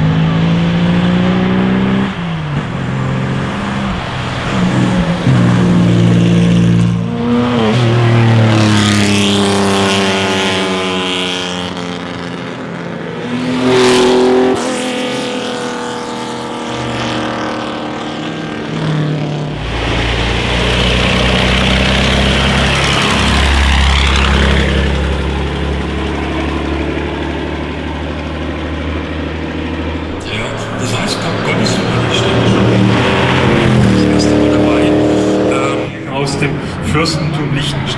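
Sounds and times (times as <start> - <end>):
car passing: 0.0 - 37.9
deep rumbling engine: 0.0 - 37.9
racing car engines revving: 0.0 - 37.9.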